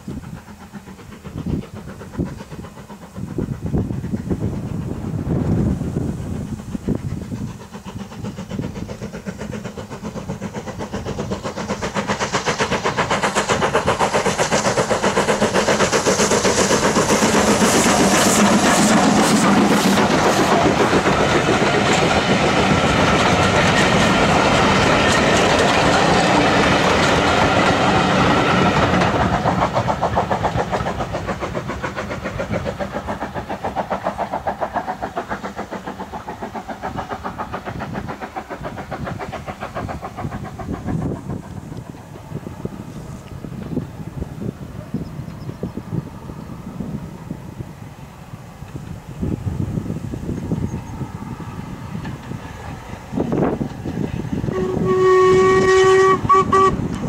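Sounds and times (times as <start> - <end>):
steam train passing: 0.0 - 57.0.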